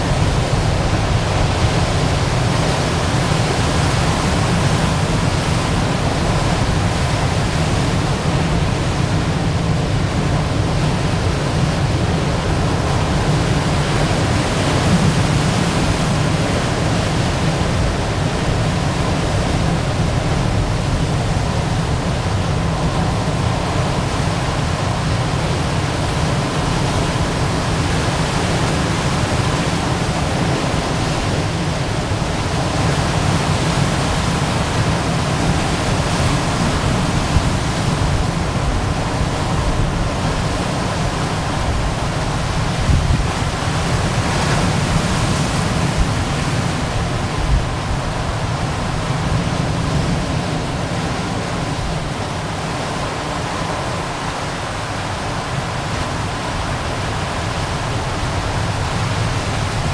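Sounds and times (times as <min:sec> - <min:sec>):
ocean surf on rocks: 0:00.0 - 0:59.9.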